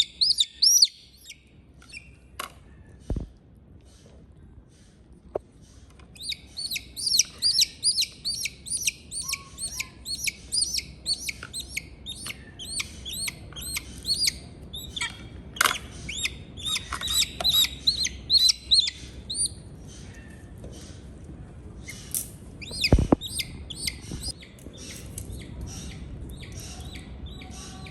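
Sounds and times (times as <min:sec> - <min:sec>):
eaglet peeping: 0:00.0 - 0:02.2, 0:06.2 - 0:21.0, 0:21.8 - 0:27.9.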